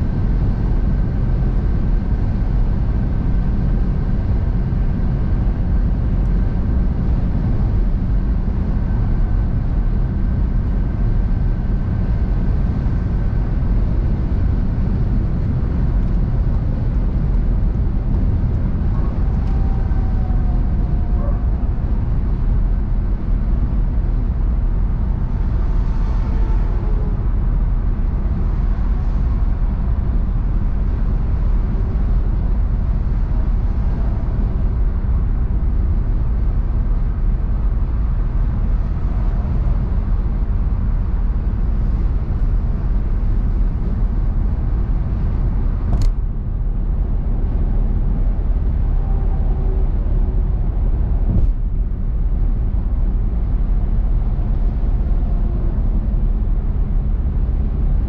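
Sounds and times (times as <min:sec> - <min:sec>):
car road rumble: 0:00.0 - 0:58.0.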